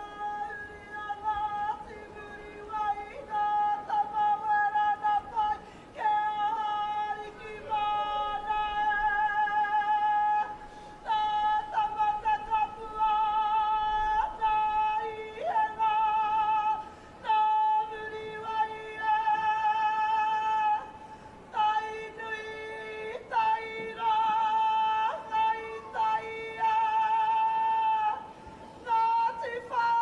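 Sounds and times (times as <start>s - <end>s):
woman singing with vibrato: 0.0s - 30.0s.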